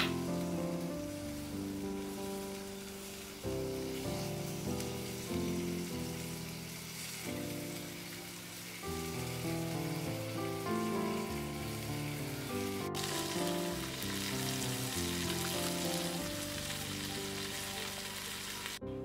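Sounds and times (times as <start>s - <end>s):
sizzling hiss on hot tile: 0.0s - 18.8s
background music of held notes: 0.0s - 19.0s.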